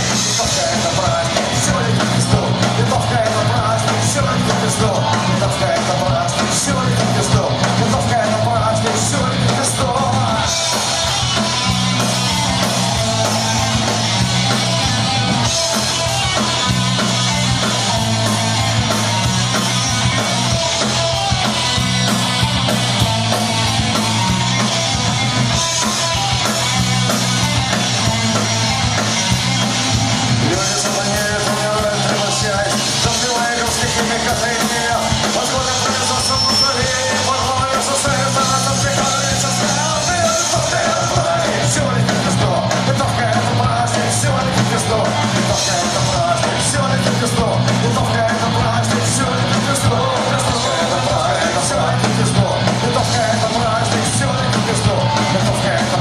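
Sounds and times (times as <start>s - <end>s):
punk rock band playing: 0.0s - 56.0s
repeating bass line: 0.0s - 56.0s.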